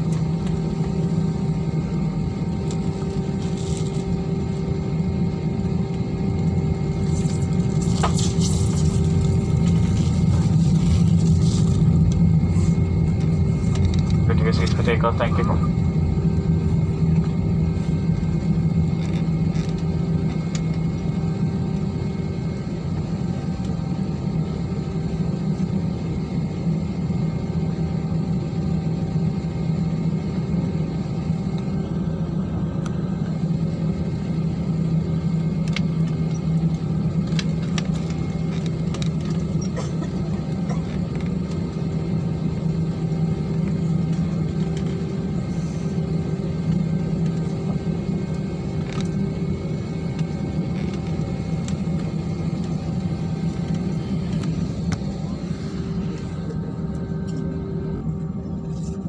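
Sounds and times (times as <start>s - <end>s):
jet engines rumbling with whine: 0.0s - 59.0s.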